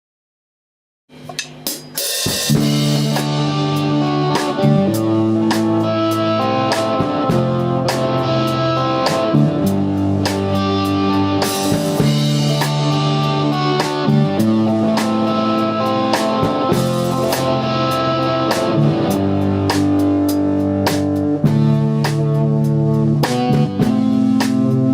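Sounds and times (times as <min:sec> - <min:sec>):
drum kit steady beat: 0:01.1 - 0:24.9
bass guitar: 0:01.2 - 0:24.9
electric guitar chords: 0:01.2 - 0:24.9.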